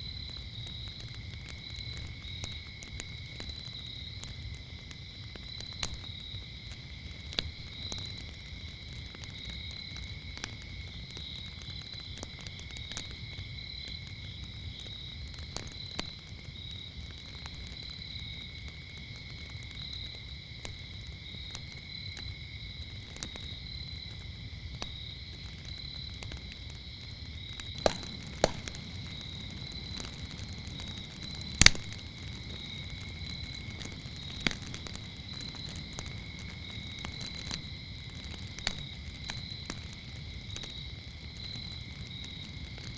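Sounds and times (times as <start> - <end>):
crickets chirping: 0.0 - 42.9
wood fire crackling and popping: 0.0 - 42.9.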